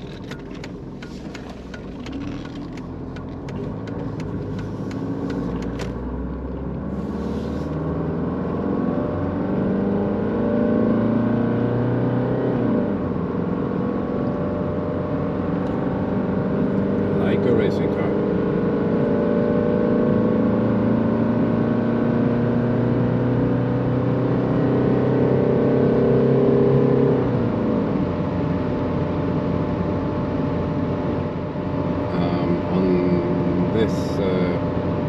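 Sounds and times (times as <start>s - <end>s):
diesel engine accelerating: 0.0s - 35.0s.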